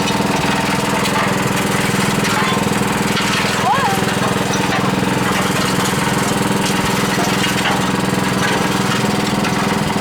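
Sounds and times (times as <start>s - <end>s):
concrete mixer engine running: 0.0s - 10.0s.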